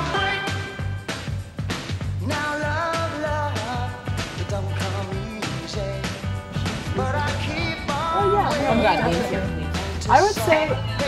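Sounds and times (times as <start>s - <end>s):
held bass line: 0.0s - 11.0s
music with steady beat: 0.0s - 11.0s.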